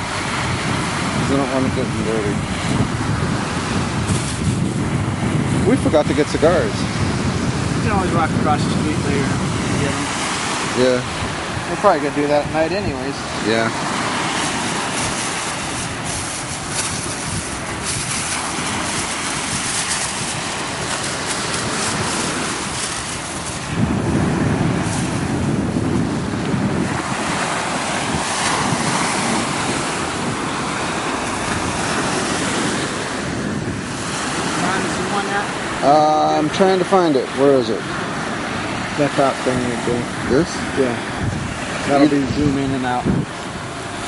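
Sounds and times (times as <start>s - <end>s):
ocean surf washing onto beach: 0.0s - 44.0s
wind on microphone: 0.0s - 44.0s.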